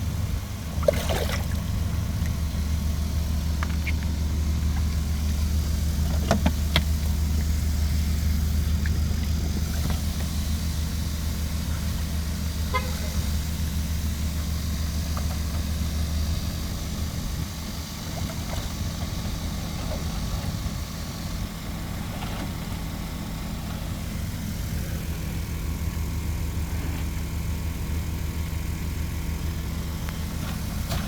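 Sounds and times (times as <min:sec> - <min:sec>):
low engine hum: 0:00.0 - 0:31.0.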